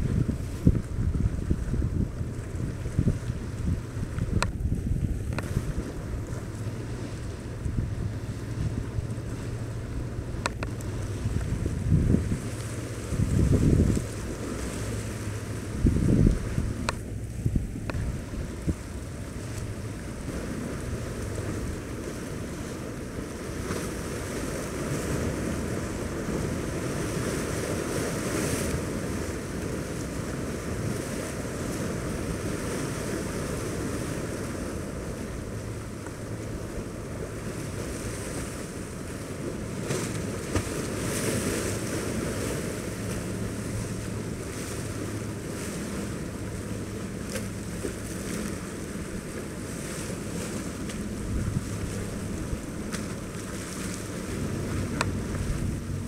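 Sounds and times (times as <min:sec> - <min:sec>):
open water wash: 0:00.0 - 0:56.0
powerboat engines droning: 0:00.0 - 0:56.0
wind buffeting microphone: 0:00.0 - 0:56.0.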